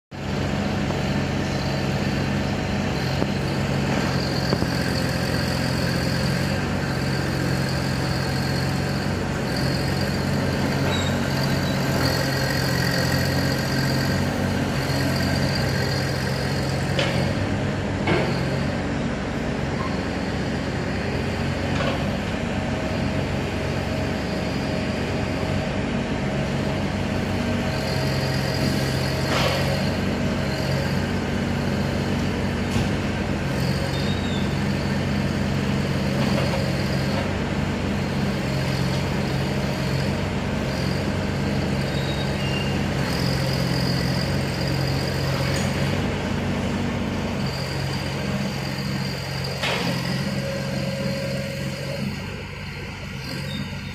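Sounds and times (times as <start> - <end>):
diesel engine running: 0.1 - 53.9.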